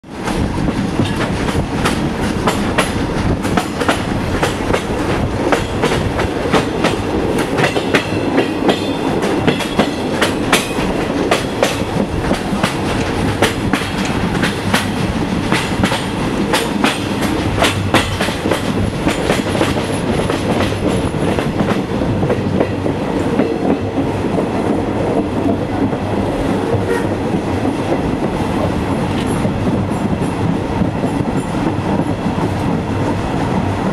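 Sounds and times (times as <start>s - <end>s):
train rolling along track: 0.0s - 33.9s
wheels knocking on rail joints: 0.2s - 32.9s.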